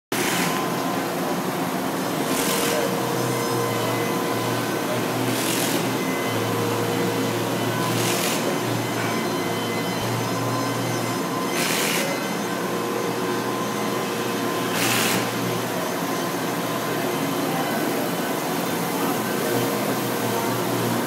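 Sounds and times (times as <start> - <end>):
workshop machinery humming: 0.1 - 21.0.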